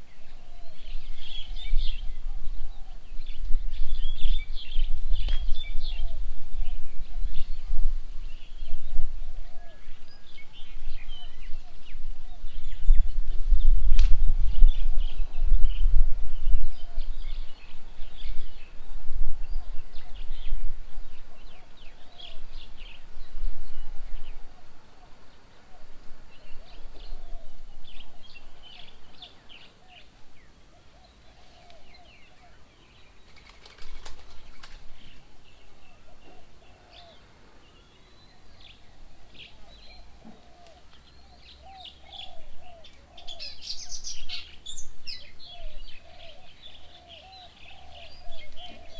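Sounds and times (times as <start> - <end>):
birds chirping: 0.0 - 48.9
low warbling bird calls: 0.0 - 48.9.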